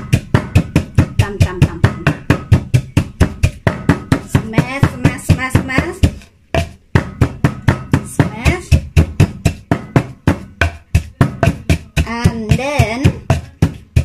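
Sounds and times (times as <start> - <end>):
wooden pestle pounding in mortar: 0.0 - 14.0.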